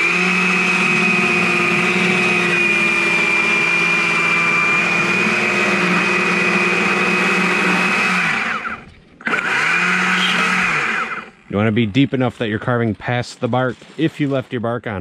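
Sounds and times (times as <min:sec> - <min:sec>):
chainsaw cutting log: 0:00.0 - 0:12.8.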